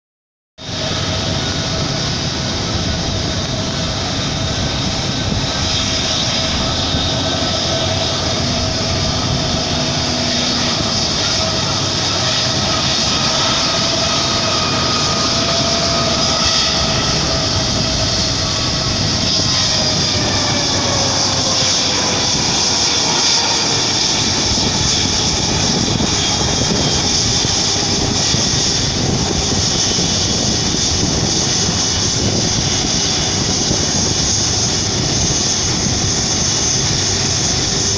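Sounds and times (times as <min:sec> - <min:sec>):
jet engines passing: 0:00.6 - 0:37.9.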